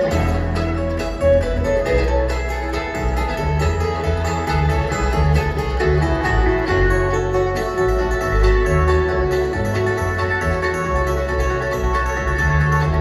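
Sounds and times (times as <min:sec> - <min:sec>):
acoustic guitar flatpicking: 0:00.0 - 0:13.0
banjo playing quick notes: 0:00.0 - 0:13.0
low bass line: 0:00.0 - 0:13.0.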